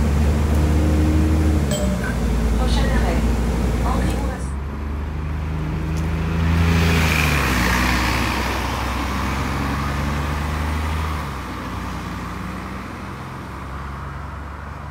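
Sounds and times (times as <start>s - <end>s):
diesel bus pulling away: 0.0s - 1.7s, 2.4s - 14.9s
general traffic noise: 0.0s - 14.9s.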